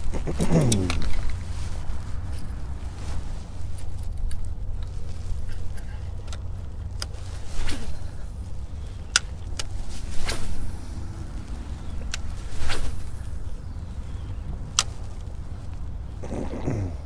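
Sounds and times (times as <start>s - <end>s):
wind rumbling on microphone: 0.0s - 17.0s
short rustles: 0.5s - 14.2s.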